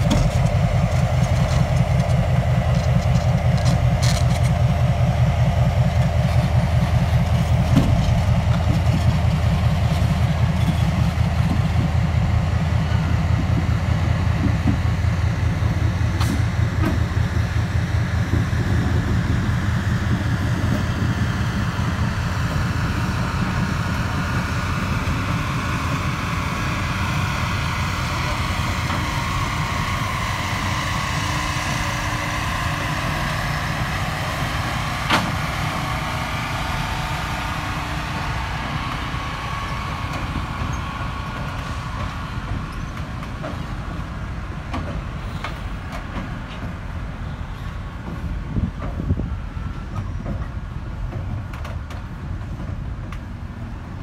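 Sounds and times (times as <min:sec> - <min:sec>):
train rumbling across steel bridge: 0:00.0 - 0:54.0.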